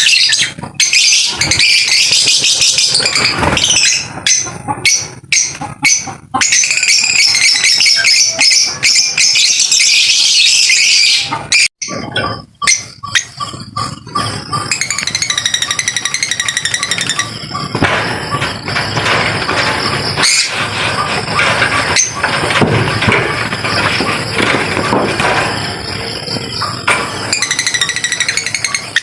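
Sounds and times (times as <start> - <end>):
lovebirds chattering and chirping: 0.0 - 29.0.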